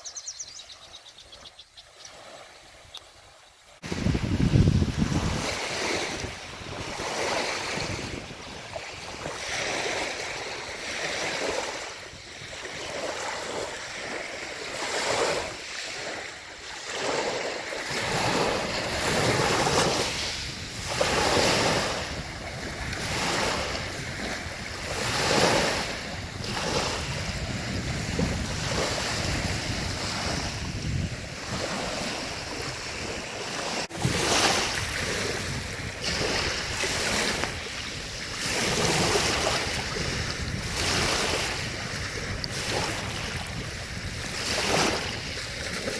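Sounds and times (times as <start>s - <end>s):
lake waves washing onto shore: 1.9s - 45.9s
wind rumble on microphone: 3.8s - 16.2s, 16.9s - 45.9s.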